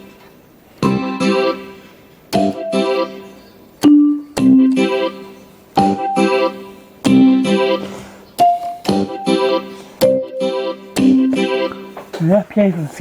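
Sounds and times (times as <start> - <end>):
electronic keyboard piano chords: 0.0 - 12.1.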